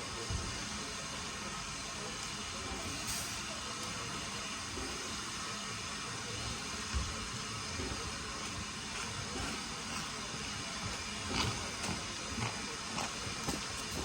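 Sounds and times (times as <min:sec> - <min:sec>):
steam train hissing and rumbling: 0:00.0 - 0:14.0.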